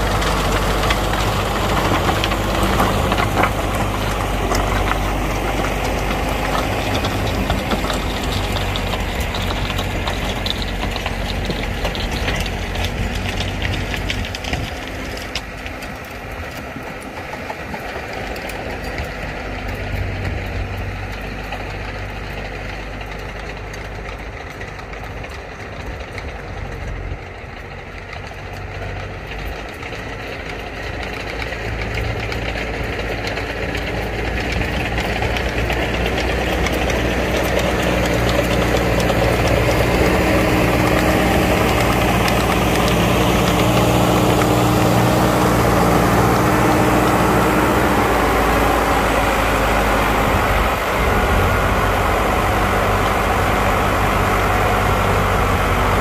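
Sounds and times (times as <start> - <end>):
rotary tiller churning soil: 0.0 - 56.0
tractor diesel engine: 0.0 - 56.0.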